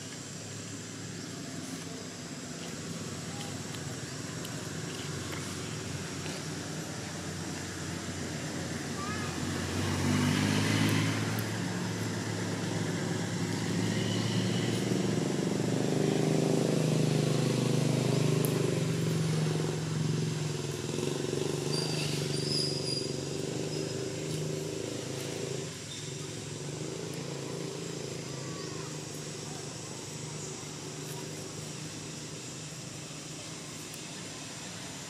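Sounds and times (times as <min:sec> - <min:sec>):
vehicle engine running: 0:00.0 - 0:35.0.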